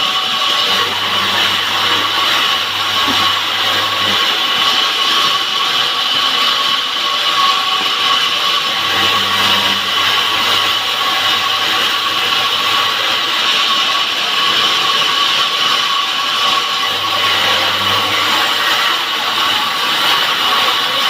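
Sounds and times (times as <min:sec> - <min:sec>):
power saw cutting wood: 0:00.0 - 0:21.0.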